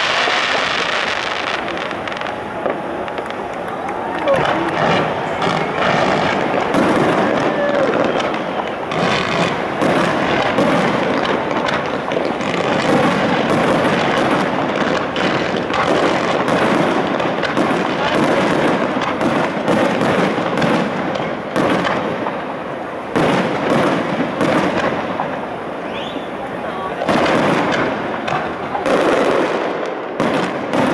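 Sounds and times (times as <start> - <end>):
fireworks bursting and crackling: 0.0 - 30.9.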